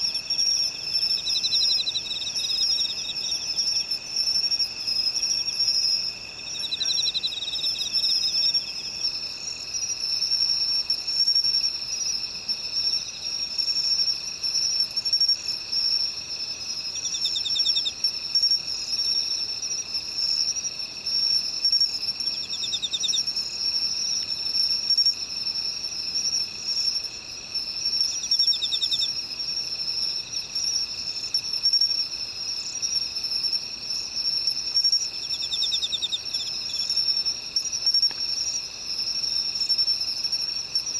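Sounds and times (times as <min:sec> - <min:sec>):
insects shrill drone: 0:00.0 - 0:40.9
lower steady insect tone: 0:00.0 - 0:40.9.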